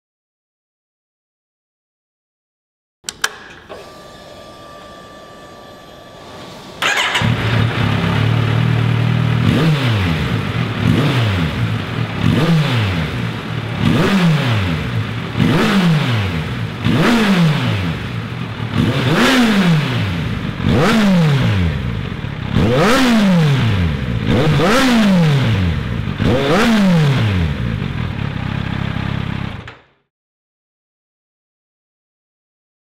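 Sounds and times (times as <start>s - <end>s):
motorcycle engine revving: 3.1s - 29.8s.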